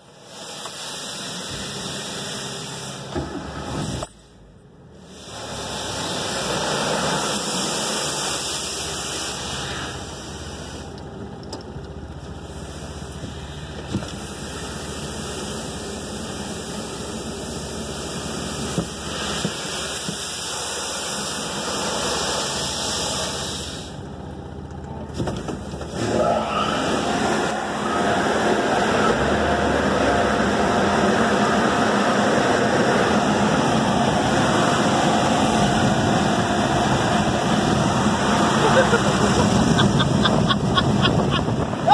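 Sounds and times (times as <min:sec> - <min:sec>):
car wash spraying water: 0:00.0 - 0:41.9.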